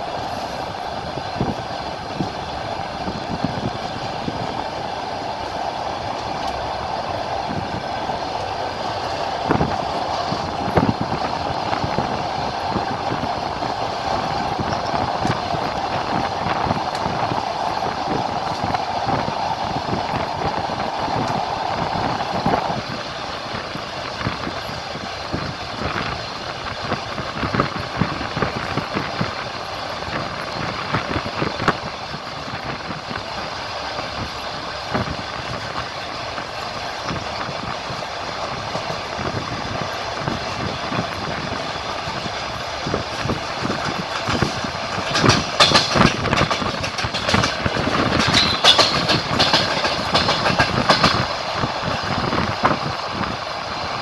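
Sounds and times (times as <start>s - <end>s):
train wheels clattering over rail joints: 0.0s - 54.0s.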